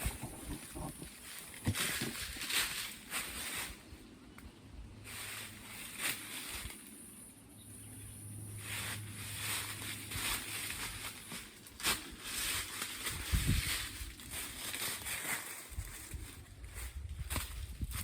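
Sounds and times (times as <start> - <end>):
leaves and branches rustling: 0.0 - 7.4, 8.4 - 18.0
low steady hum: 0.0 - 18.0.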